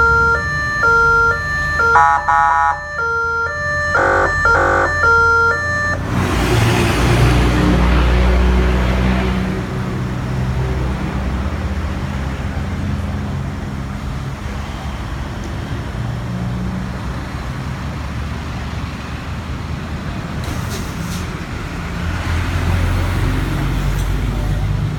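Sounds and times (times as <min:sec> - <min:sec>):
vehicle engine humming: 0:00.0 - 0:24.9.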